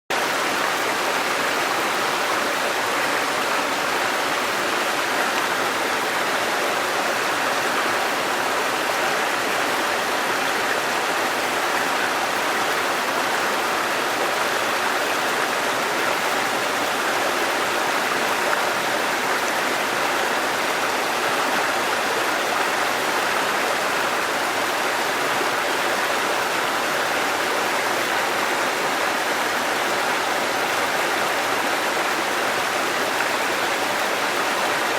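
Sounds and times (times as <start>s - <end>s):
waterfall and rushing stream: 0.1s - 34.9s.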